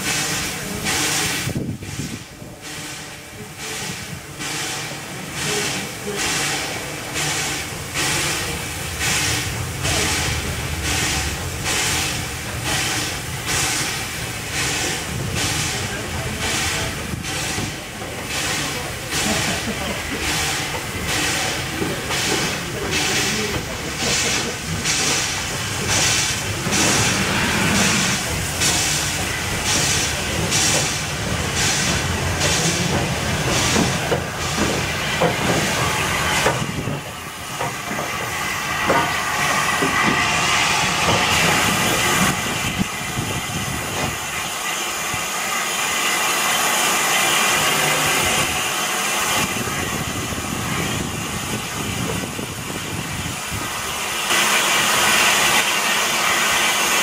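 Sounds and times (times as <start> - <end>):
steam hissing: 0.0 - 57.0
steam locomotive chuffing: 0.0 - 57.0.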